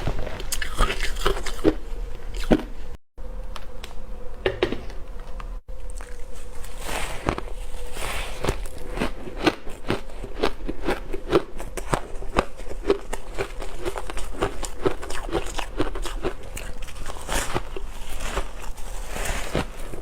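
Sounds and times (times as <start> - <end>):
ice crunching being chewed: 0.2 - 2.7, 5.7 - 20.0.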